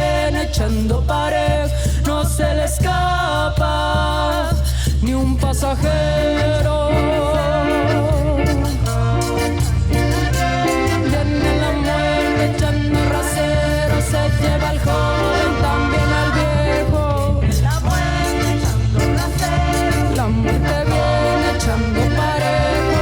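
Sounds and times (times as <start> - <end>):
live band playing cumbia: 0.0 - 23.0.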